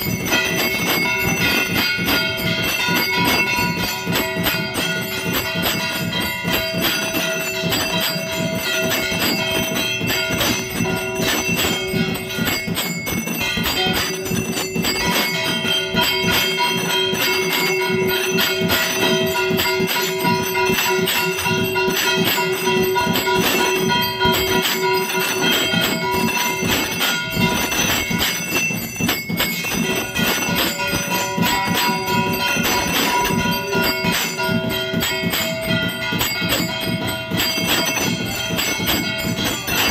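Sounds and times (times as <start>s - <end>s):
hand bell ringing rapidly: 0.0s - 39.9s.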